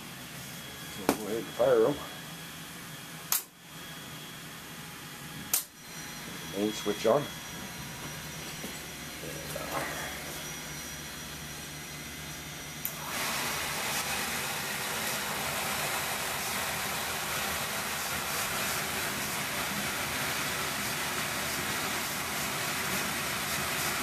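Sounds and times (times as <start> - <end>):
burner motor and blower fan running: 0.0 - 24.0.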